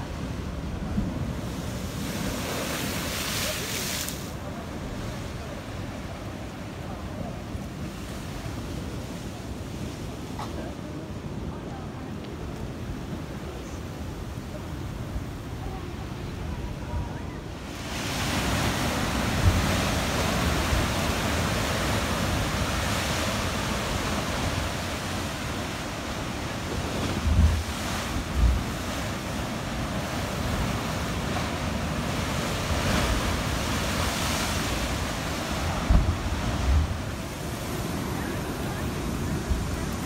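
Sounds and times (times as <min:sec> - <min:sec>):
surf churning through rocks: 0:00.0 - 0:11.8, 0:14.4 - 0:40.0.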